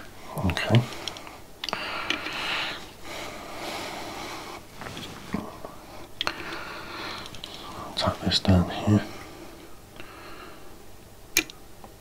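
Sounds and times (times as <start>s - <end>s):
solder flux sizzling and crackling: 0.0s - 10.0s.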